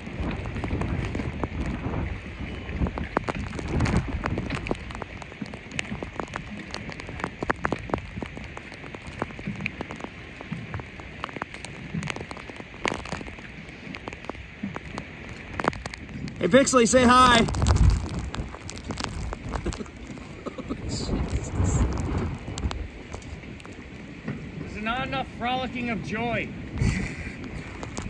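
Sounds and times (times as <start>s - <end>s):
heavy rain on water: 0.0s - 28.0s
low buffeting rumbles: 0.0s - 28.0s.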